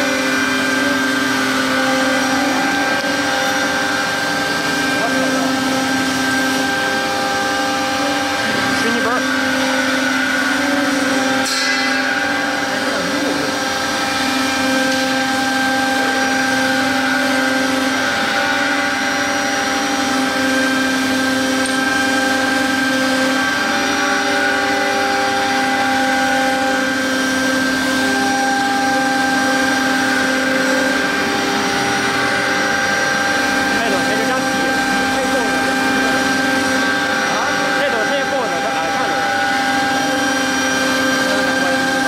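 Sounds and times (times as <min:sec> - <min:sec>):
cnc router spindle whine: 0:00.0 - 0:42.0.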